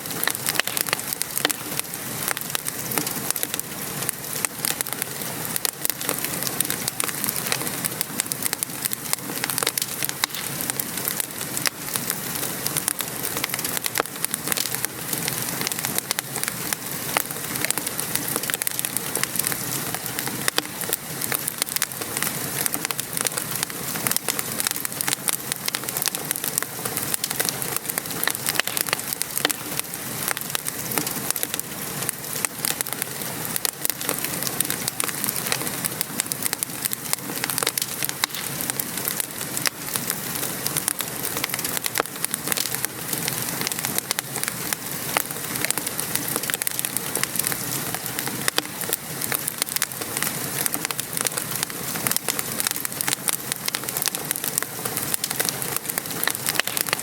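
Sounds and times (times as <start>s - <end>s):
rain pattering: 0.0s - 57.0s
wood fire crackling: 0.0s - 57.0s.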